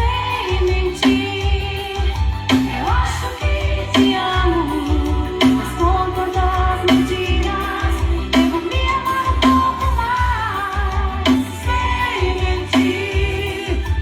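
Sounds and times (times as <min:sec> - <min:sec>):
loud song with heavy bass: 0:00.0 - 0:14.0.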